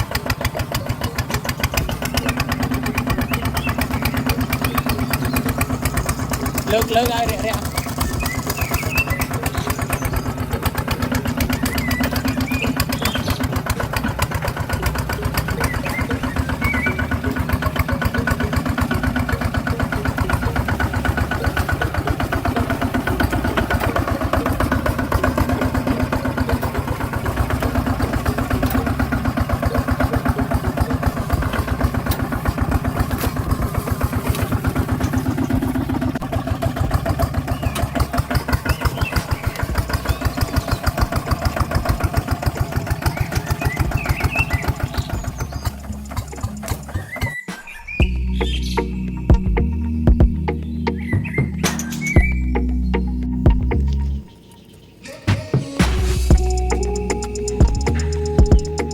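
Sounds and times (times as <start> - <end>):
small engine chugging: 0.0 - 58.9.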